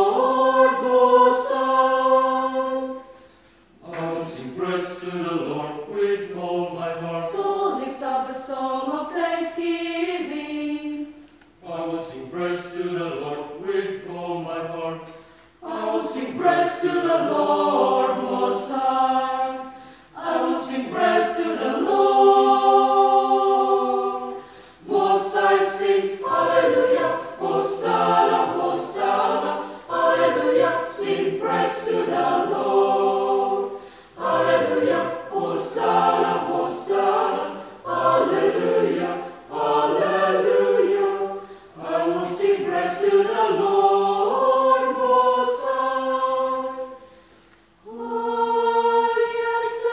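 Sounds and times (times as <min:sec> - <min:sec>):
choir singing a hymn: 0:00.0 - 0:49.9.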